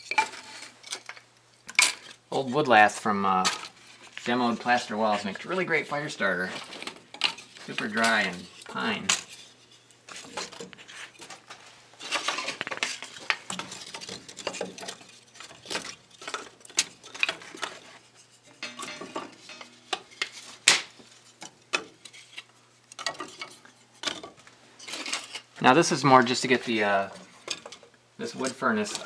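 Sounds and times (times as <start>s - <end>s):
wooden sticks clattering and knocking: 0.0s - 29.0s.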